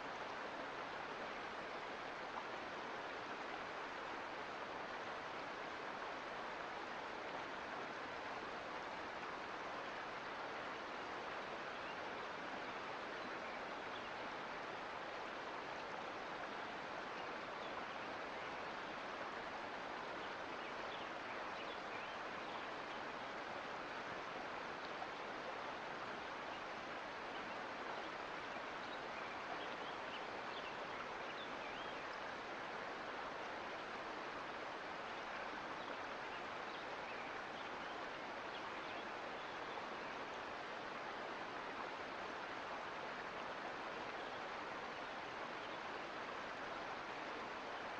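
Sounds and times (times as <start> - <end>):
creek flowing over rocks: 0.0 - 47.9.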